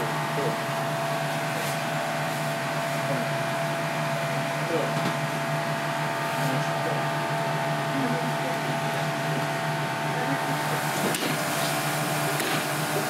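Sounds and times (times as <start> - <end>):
kitchen machinery hum: 0.0 - 13.0.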